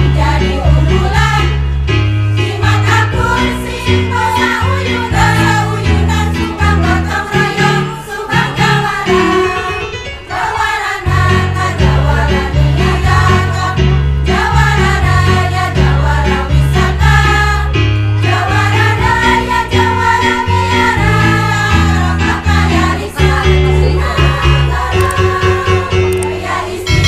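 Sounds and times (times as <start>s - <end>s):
women's choir singing: 0.0s - 1.7s, 2.3s - 27.0s
instrumental accompaniment with bass: 0.0s - 27.0s.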